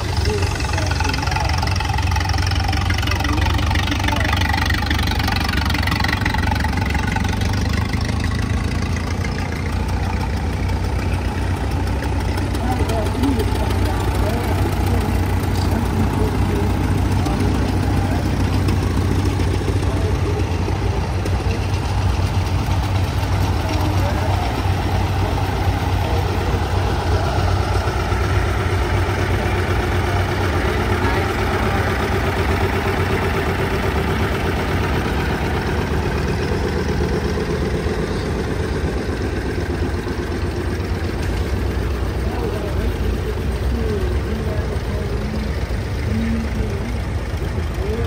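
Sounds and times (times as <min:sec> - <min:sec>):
tractor engines running: 0:00.0 - 0:48.0.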